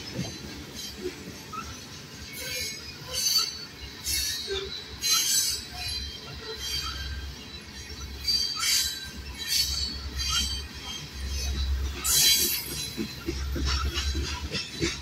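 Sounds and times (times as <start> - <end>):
freight train rumbling past: 0.0 - 15.0
steel wheels squealing: 0.0 - 15.0.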